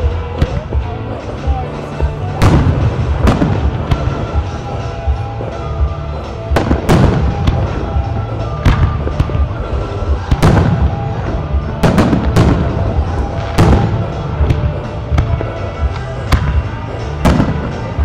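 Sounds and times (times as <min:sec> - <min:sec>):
music: 0:00.0 - 0:18.0
firework shells booming: 0:02.0 - 0:18.0.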